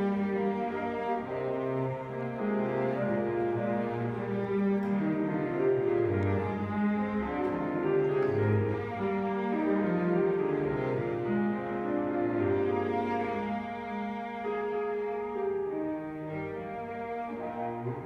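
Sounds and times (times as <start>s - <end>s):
cello bowing long notes: 0.0s - 18.0s
piano accompaniment: 0.0s - 18.0s.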